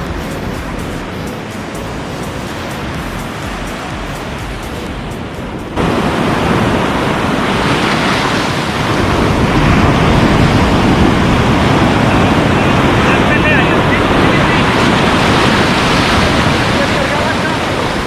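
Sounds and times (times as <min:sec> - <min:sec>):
sea surf breaking: 0:00.0 - 0:18.0
wind buffeting microphone: 0:00.0 - 0:18.0.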